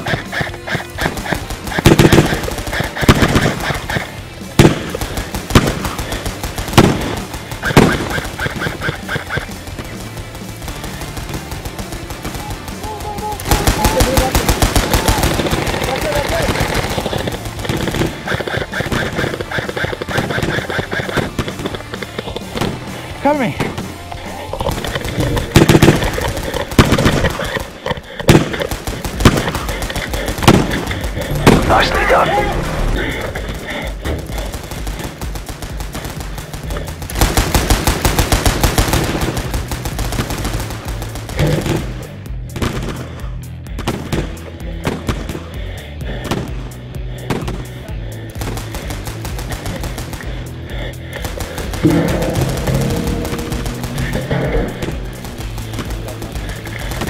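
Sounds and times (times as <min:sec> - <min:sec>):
loud sharp cracks: 0:00.0 - 0:23.0, 0:24.6 - 0:43.1, 0:51.2 - 0:57.0
airsoft guns firing: 0:00.0 - 0:57.0
background music: 0:00.0 - 0:57.0.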